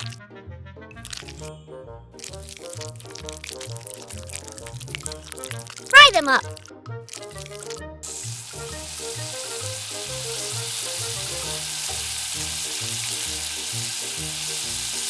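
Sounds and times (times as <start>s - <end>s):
patties sizzling in hot oil: 0.0s - 0.2s, 1.0s - 1.5s, 2.2s - 15.0s.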